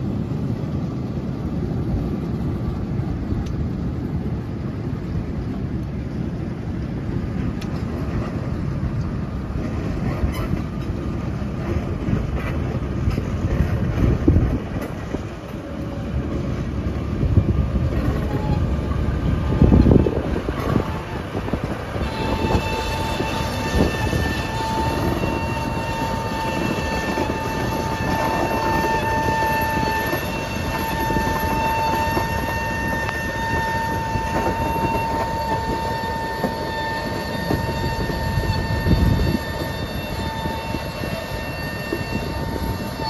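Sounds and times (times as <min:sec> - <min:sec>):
diesel locomotive engine running: 0:00.0 - 0:43.0
steady high whine: 0:00.0 - 0:43.0
wheels rumbling and knocking on track: 0:00.0 - 0:43.0.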